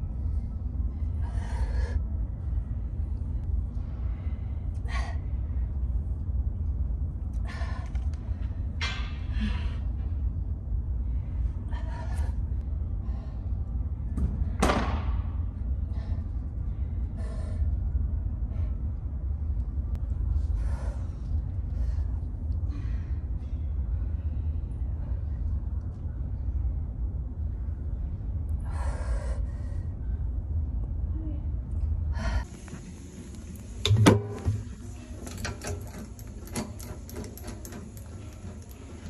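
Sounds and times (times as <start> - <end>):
low rumble of gym room: 0.0 - 39.0.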